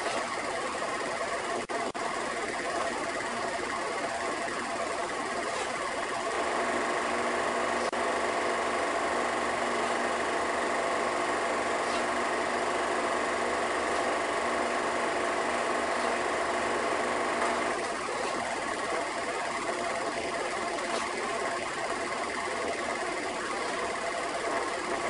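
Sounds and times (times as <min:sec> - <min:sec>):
constant hum: 0:00.0 - 0:25.0
film projector whirring and clattering: 0:00.0 - 0:25.0.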